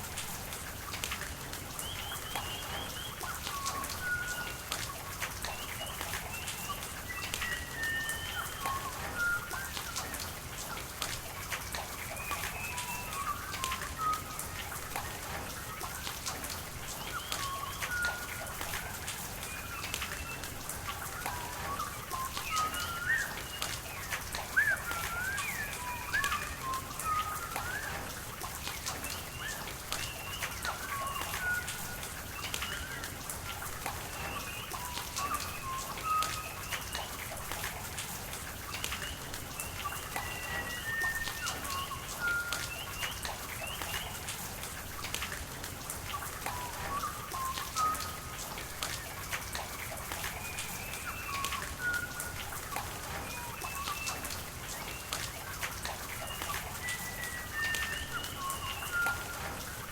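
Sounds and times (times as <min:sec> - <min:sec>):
rain drops ticking: 0:00.0 - 0:59.9
running water rushing: 0:00.0 - 0:59.9
whistled bird calls: 0:01.7 - 0:45.4, 0:46.0 - 0:59.9.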